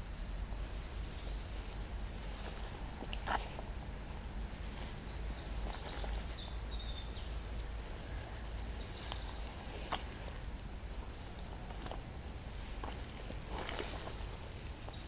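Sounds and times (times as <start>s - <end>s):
steady low rumble: 0.0s - 15.0s
songbird chirping: 0.1s - 15.0s.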